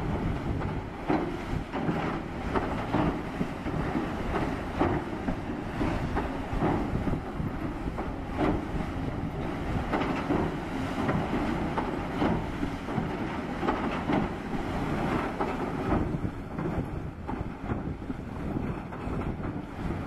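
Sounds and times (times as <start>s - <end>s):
excavator low rumble: 0.0s - 20.0s
water splashing and sloshing: 0.0s - 20.0s
wind buffeting microphone: 0.0s - 20.0s.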